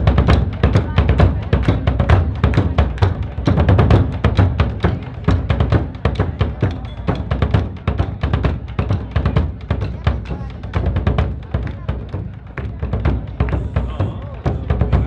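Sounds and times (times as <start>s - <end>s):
fast drumming: 0.0s - 15.0s.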